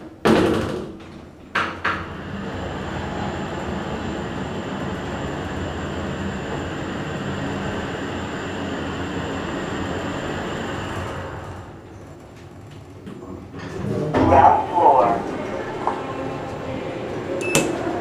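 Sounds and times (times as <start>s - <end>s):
elevator hum: 1.0s - 18.0s.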